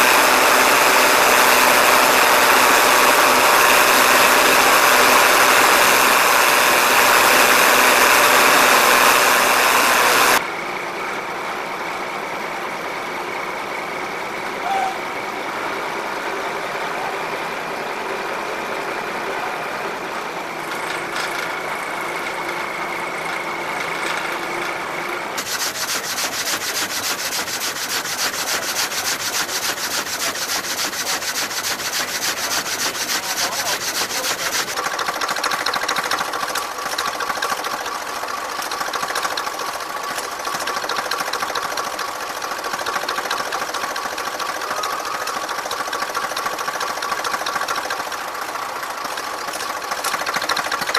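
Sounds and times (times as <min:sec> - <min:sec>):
machine sawing a log: 0:00.0 - 0:10.4, 0:20.5 - 0:50.9
tractor engines running: 0:00.0 - 0:50.9.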